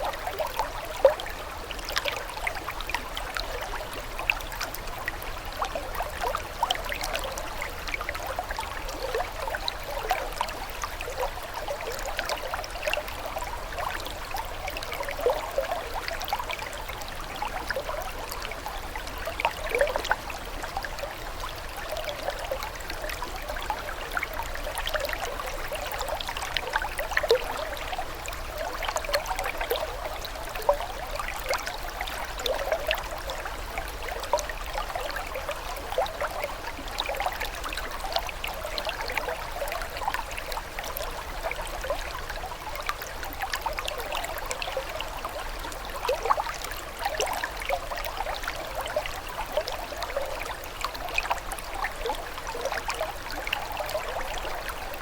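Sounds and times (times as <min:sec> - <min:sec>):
droplet and ripple sounds: 0:00.0 - 0:55.0
water trickling and splashing: 0:00.0 - 0:55.0.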